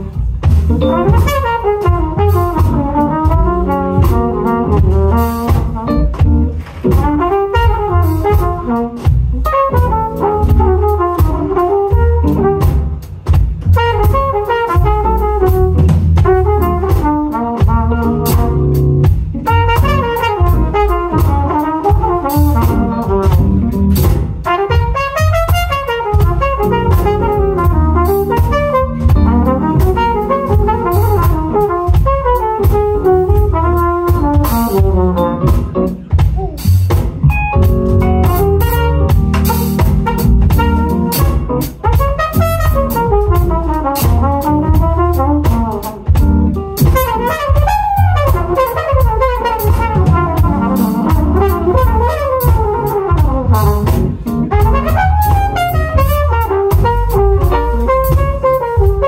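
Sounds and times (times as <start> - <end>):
drum kit: 0.0 - 59.0
electric bass: 0.0 - 59.0
trumpet melody: 0.0 - 59.0.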